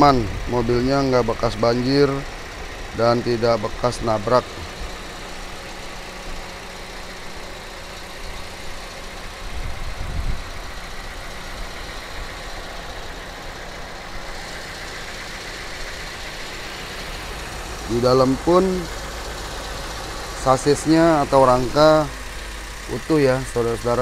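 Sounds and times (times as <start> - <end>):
car engine idling: 0.0 - 24.0
low engine rumble: 0.0 - 24.0.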